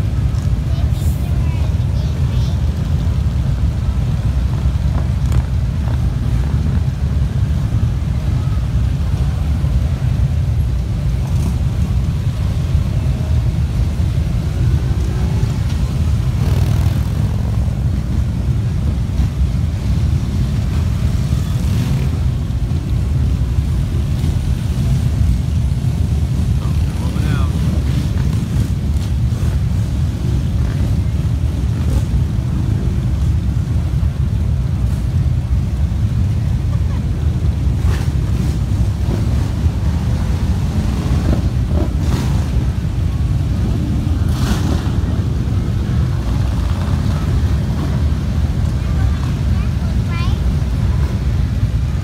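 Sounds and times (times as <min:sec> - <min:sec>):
motorcycles rumbling: 0:00.0 - 0:52.0
traffic: 0:00.0 - 0:52.0.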